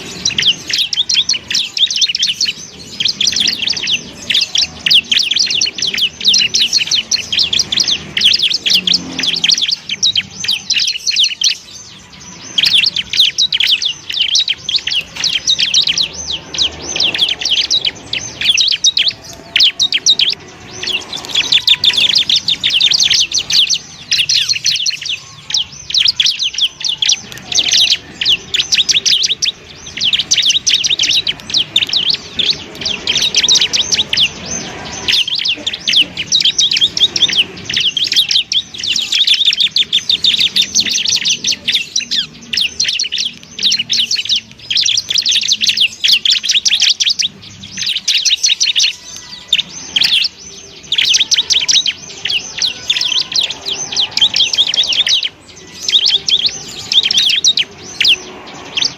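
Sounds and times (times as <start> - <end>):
bird singing rapid high chirps: 0.0 - 58.9.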